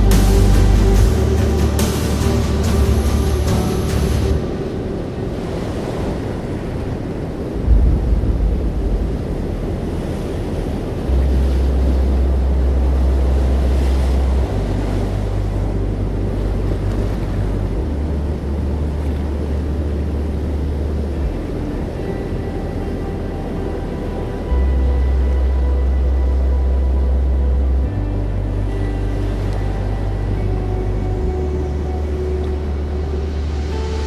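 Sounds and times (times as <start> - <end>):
ambient music with deep bass: 0.0 - 34.0
steady rushing noise: 0.0 - 34.0.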